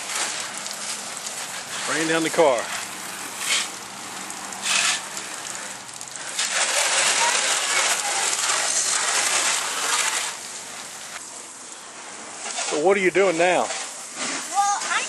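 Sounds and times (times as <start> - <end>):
hose spraying water: 0.0 - 15.0.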